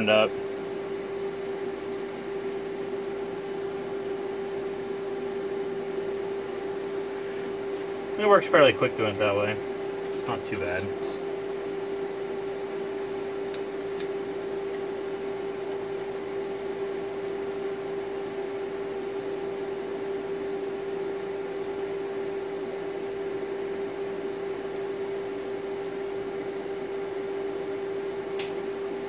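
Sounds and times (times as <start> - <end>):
fan-like machine hum: 0.0 - 29.0.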